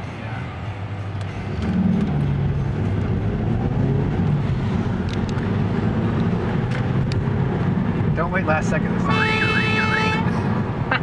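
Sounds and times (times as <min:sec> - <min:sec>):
car engine drone: 0:00.0 - 0:11.0
road noise inside car: 0:00.0 - 0:11.0.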